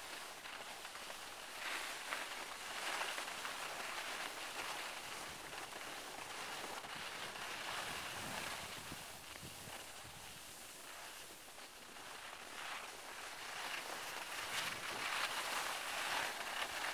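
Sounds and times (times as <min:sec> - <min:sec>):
skis scraping over snow: 0:00.0 - 0:16.9.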